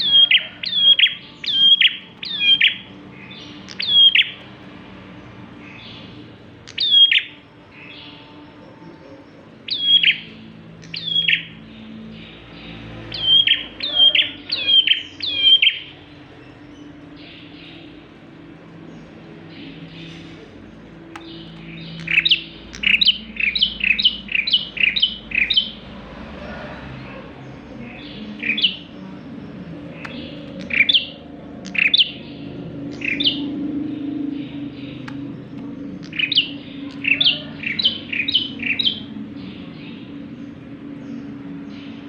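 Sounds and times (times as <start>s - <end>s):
bird singing falling notes: 0.0s - 25.8s, 28.0s - 39.2s.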